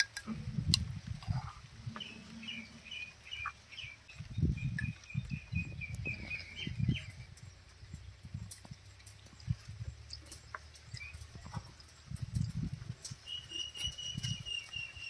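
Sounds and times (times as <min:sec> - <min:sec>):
dull low thumps and rumbles: 0:00.0 - 0:02.2, 0:03.3 - 0:13.3
small bird chirping: 0:01.9 - 0:15.0.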